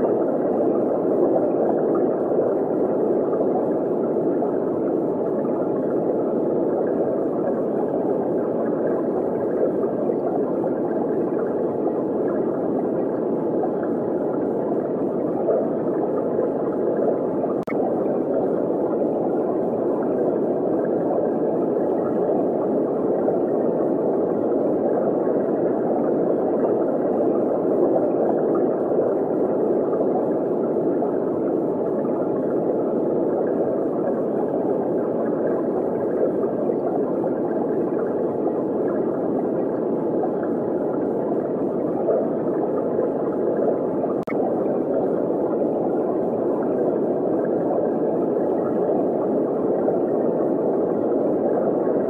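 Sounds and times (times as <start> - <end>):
muffled underwater rushing: 0.0 - 52.0.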